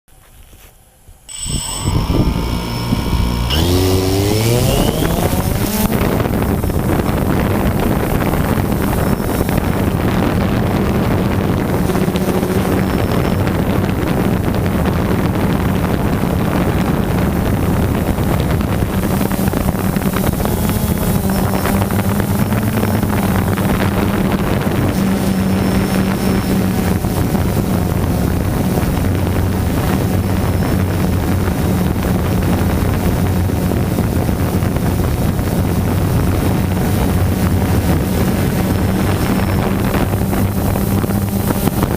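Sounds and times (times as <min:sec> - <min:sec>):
drone propellers buzzing: 0:01.3 - 0:41.9
wind rushing over microphone: 0:01.3 - 0:41.9.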